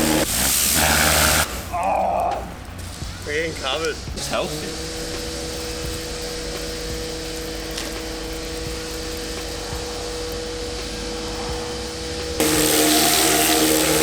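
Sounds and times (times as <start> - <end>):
pressure washer motor hum: 0.0 - 1.7, 2.6 - 14.0
water spraying: 0.0 - 14.0.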